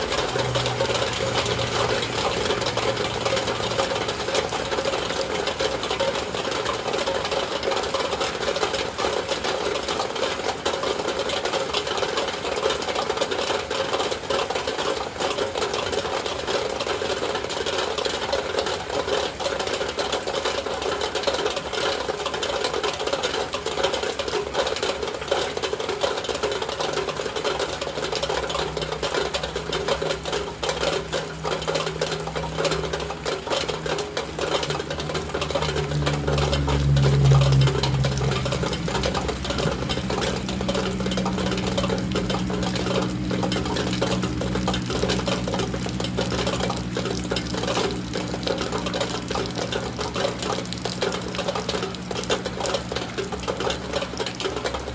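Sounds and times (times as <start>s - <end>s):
heavy rain on a window: 0.0s - 54.9s.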